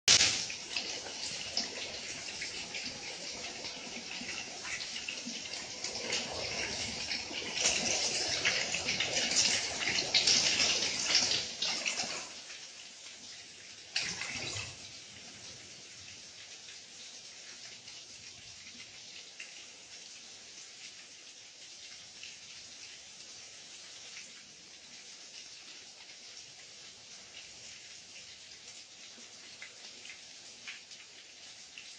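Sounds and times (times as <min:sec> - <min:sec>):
heavy rain pouring: 0:00.1 - 0:31.9
water dripping and spattering: 0:00.1 - 0:31.9.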